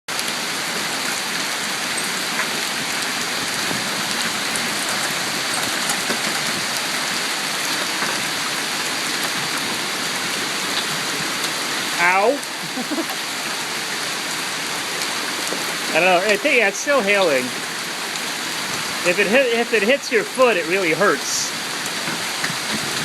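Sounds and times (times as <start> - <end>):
heavy rain pelting: 0.1 - 23.0
hailstones ticking: 0.2 - 23.0.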